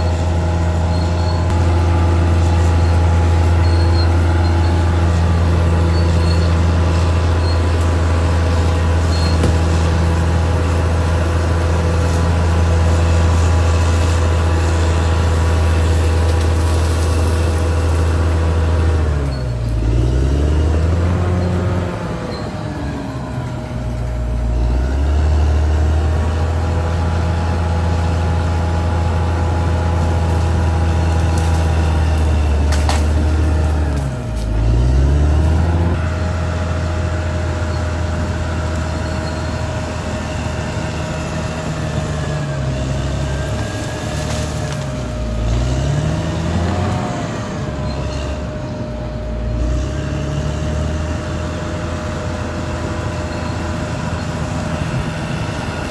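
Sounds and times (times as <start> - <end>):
bulldozer diesel engine: 0.0 - 55.9.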